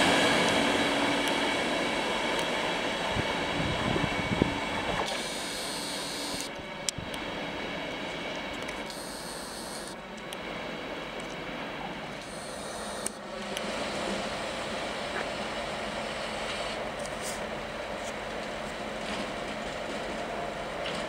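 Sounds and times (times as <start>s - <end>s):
train coaches rolling on rails: 0.0s - 21.0s.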